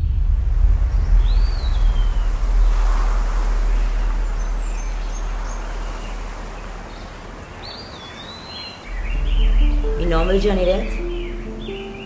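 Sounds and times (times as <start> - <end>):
birds chirping faintly: 0.0 - 12.0
low street rumble: 0.0 - 12.0.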